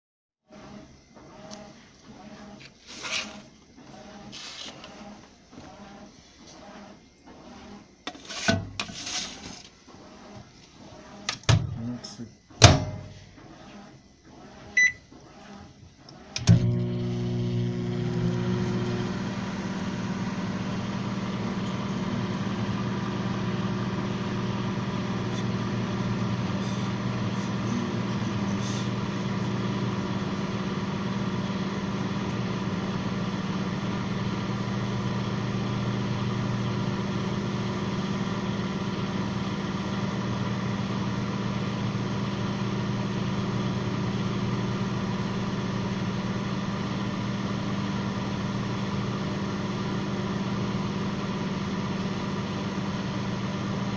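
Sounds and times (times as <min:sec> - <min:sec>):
microwave oven humming: 0:10.1 - 0:53.9.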